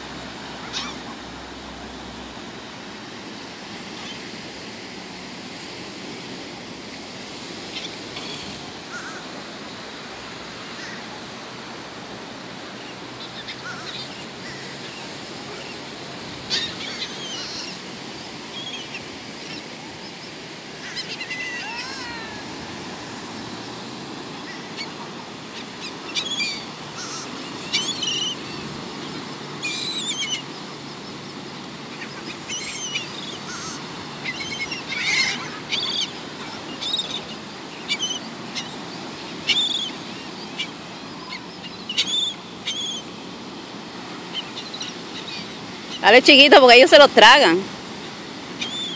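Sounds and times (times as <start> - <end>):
gulls calling: 0.0 - 4.5, 7.4 - 48.9
surf: 0.0 - 48.9
wind: 0.0 - 48.9.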